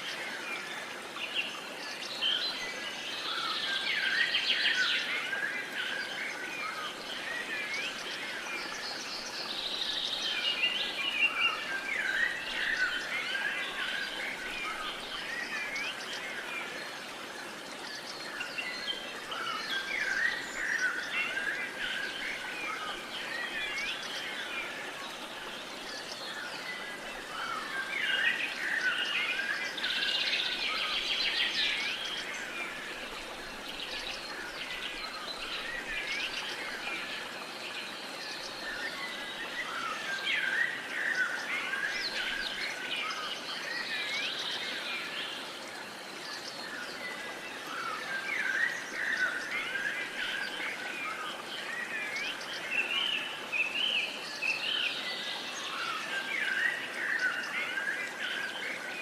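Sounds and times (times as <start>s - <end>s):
faint outdoor background hiss: 0.0s - 59.0s
wild birds singing and chirping: 0.0s - 59.0s.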